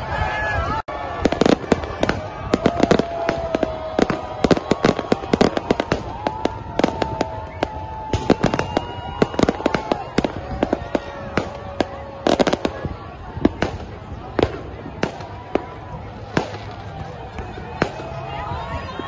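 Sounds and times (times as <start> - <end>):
whistling fireworks: 0.0 - 19.0
firecrackers cracking and banging: 1.1 - 18.8.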